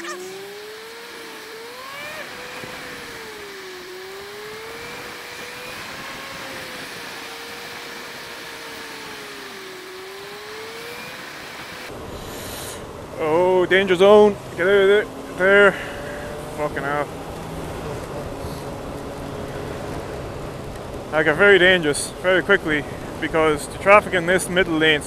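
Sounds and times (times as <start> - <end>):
motorcycle engine running: 0.0 - 25.0
wet road noise: 0.0 - 25.0.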